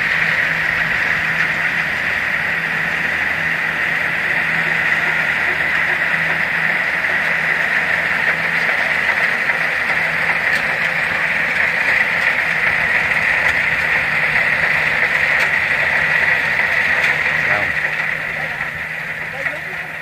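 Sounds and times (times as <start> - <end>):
combine harvesters droning: 0.0 - 20.0.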